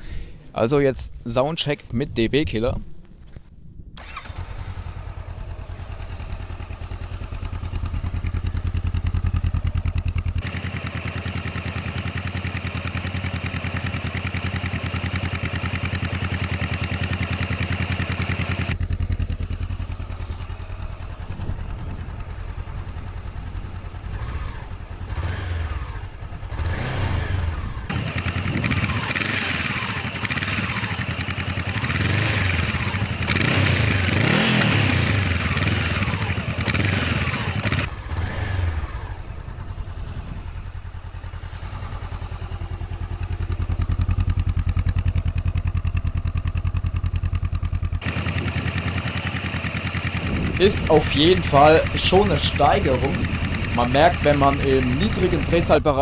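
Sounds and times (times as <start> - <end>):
motorcycle engine idling and revving: 3.9 - 56.0.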